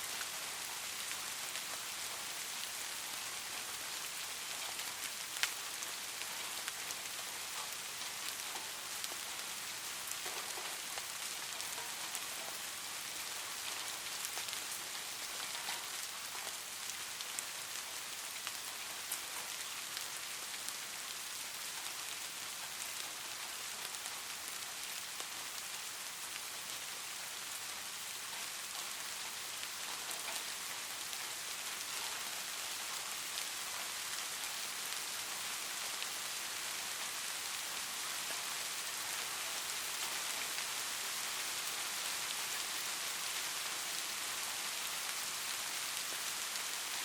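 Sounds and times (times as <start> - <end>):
light rain hissing: 0.0 - 47.0.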